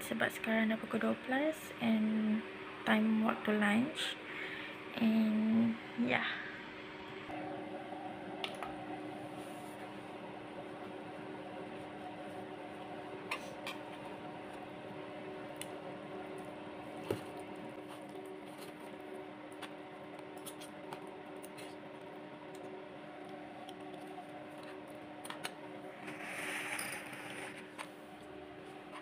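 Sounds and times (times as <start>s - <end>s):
low appliance hum: 0.0s - 29.0s.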